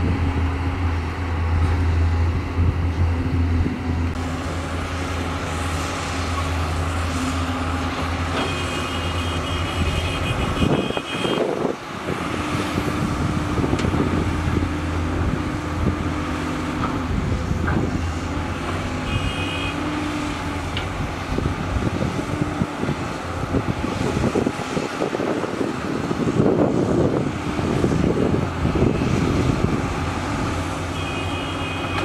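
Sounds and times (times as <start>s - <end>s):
excavator diesel engines running: 0.0s - 32.0s.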